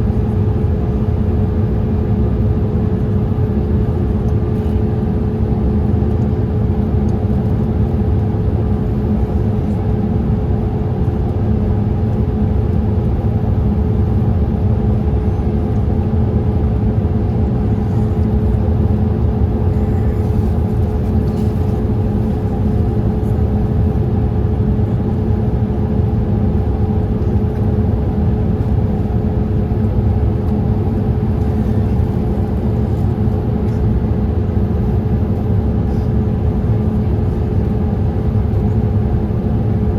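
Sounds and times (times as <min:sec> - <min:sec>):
airliner cabin rumble: 0:00.0 - 0:39.9
steady cabin hum: 0:00.0 - 0:39.9.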